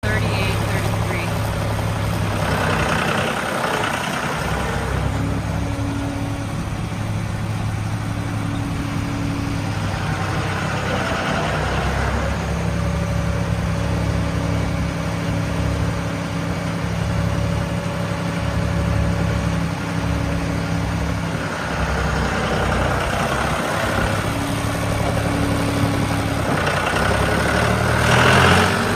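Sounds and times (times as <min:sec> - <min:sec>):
tractor diesel engine idling: 0:00.0 - 0:28.9.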